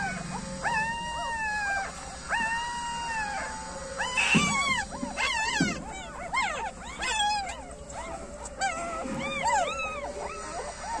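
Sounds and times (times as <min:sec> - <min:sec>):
puppies squealing and whimpering: 0:00.0 - 0:11.0.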